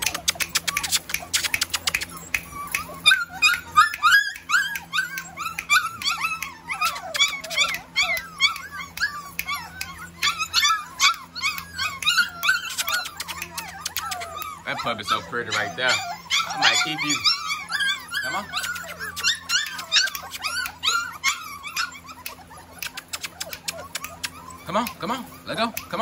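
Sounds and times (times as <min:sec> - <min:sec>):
puppies whining and yelping: 0:00.0 - 0:26.0.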